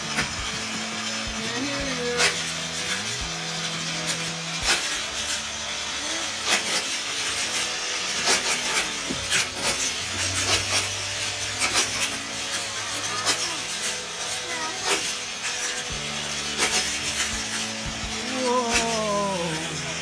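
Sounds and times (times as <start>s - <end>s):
plastic track pieces clicking: 0.1s - 17.8s.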